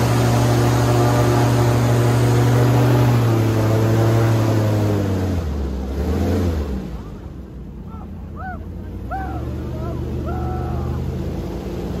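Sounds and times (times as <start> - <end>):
airboat engine and propeller: 0.0 - 12.0.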